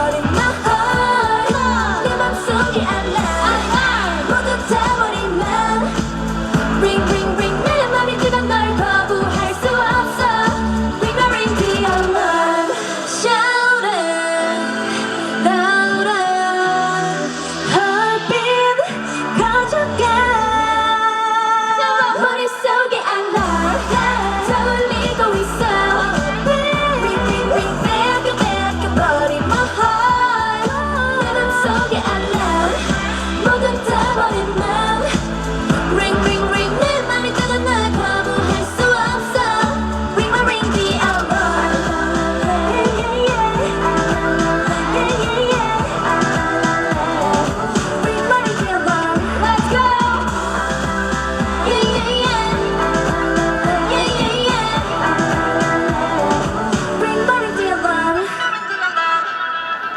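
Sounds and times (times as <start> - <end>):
girl group singing: 0.0 - 58.9
dance-pop song with female vocals: 0.0 - 59.9.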